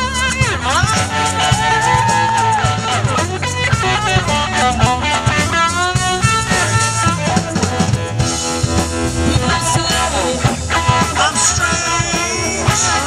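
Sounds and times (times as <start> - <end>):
bass guitar: 0.0 - 13.0
drum kit: 0.0 - 13.0
electric lead guitar: 0.0 - 13.0.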